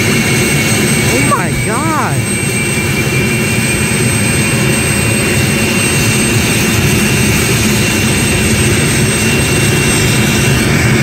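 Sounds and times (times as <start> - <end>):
helicopter engine whine: 0.0 - 11.0
helicopter rotor rumble: 0.0 - 11.0.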